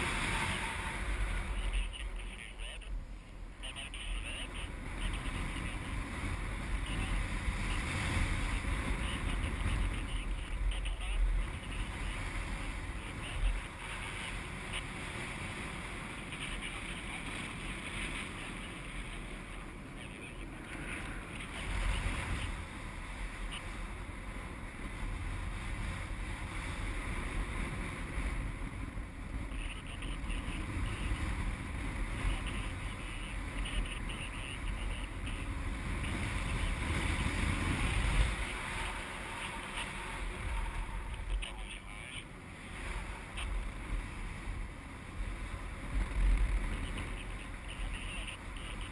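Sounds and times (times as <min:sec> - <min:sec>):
wind rush with deep rumble: 0:00.0 - 0:48.9.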